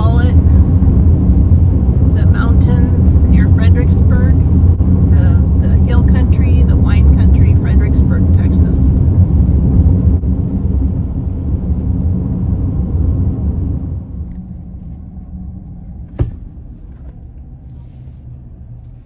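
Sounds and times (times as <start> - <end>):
road and tyre noise in car: 0.0 - 19.0.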